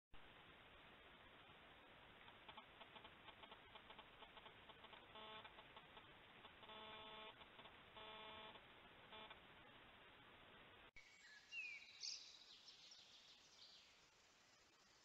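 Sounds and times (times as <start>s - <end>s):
faint hiss: 0.2s - 15.0s.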